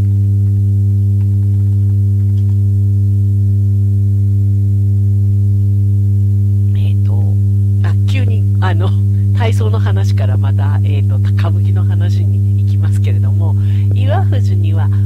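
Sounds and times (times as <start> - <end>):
deep electrical hum: 0.0 - 15.0.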